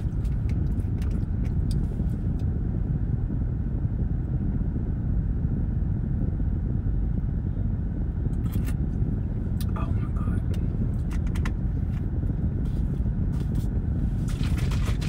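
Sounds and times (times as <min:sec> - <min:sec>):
car idling from inside cabin: 0:00.0 - 0:15.0.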